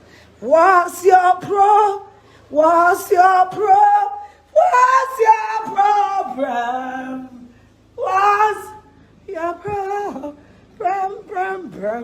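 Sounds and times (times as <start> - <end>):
woman singing unaccompanied: 0.4 - 12.0.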